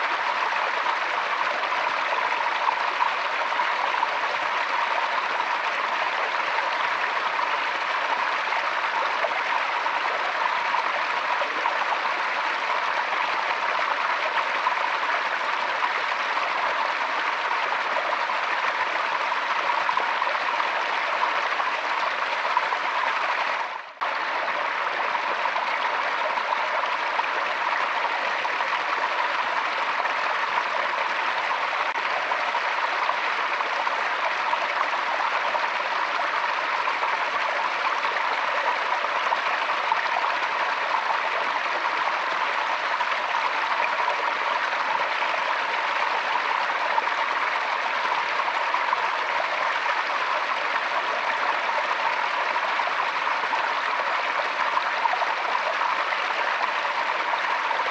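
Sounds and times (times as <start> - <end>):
stream flowing over stones: 0.0 - 57.9.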